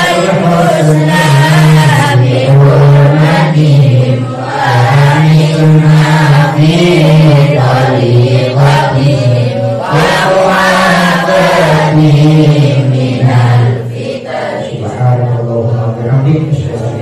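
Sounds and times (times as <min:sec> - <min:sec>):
man chanting prayer: 0:00.0 - 0:17.0.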